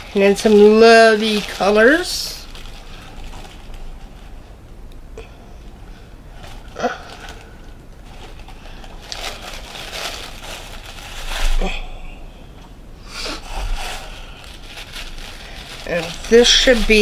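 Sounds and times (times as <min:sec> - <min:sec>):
soft rustling of wrapped items: 0:00.0 - 0:17.0.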